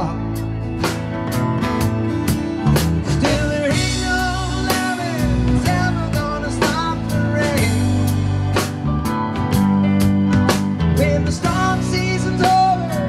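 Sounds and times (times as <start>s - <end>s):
drum kit beat: 0.0s - 13.0s
live rock band playing: 0.0s - 13.0s.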